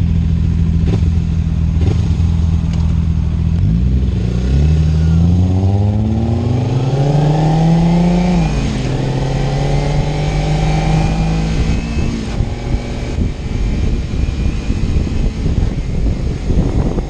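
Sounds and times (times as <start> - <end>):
motorcycle engine revving: 0.0 - 17.0
road and wind noise: 0.0 - 17.0.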